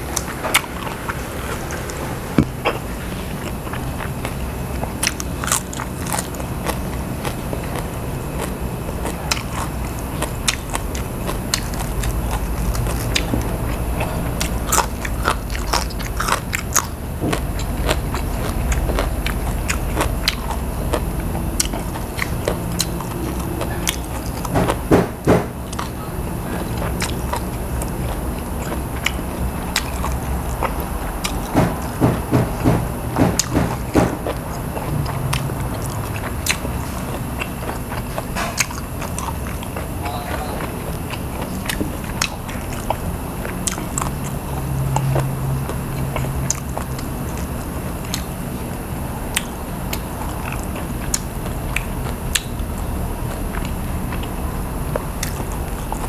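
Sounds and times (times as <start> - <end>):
person chewing: 0.0 - 56.0
steady low hum: 0.0 - 56.0.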